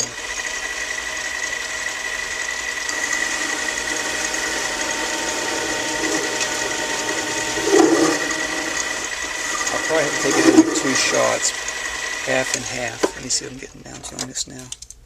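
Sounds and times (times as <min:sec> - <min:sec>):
metal lathe humming and whining: 0:00.0 - 0:13.6.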